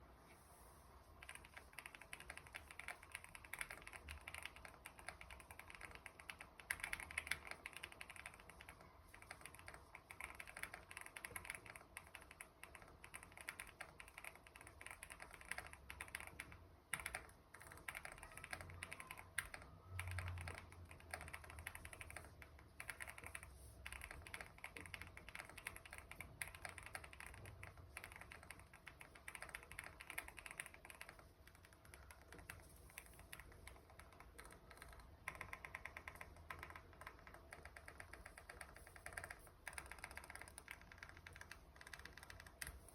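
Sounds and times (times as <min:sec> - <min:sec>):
fast mechanical keyboard typing: 0:01.2 - 0:42.9.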